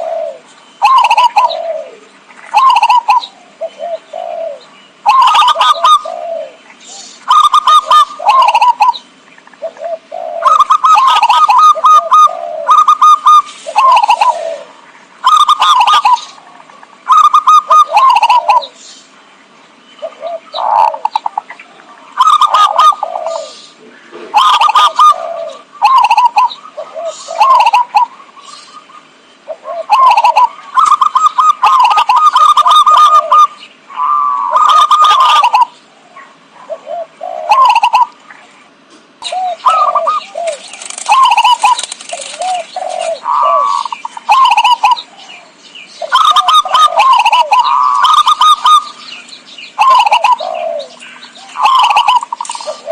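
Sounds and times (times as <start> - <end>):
dove cooing: 0.0 - 18.8, 20.0 - 52.9.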